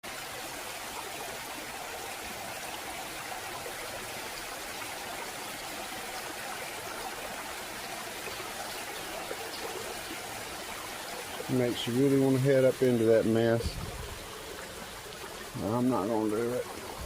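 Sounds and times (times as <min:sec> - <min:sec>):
waterfall rushing: 0:00.2 - 0:17.0.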